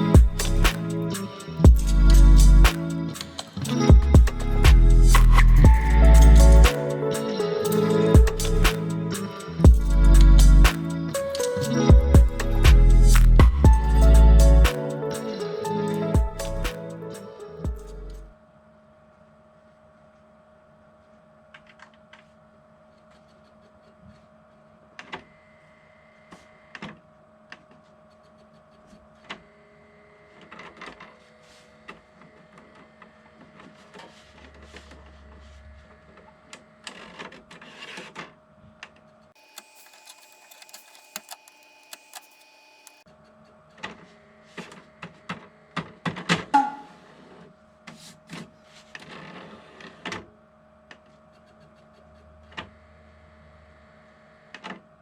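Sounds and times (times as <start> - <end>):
electric mechanism whine: 0.0 - 51.0.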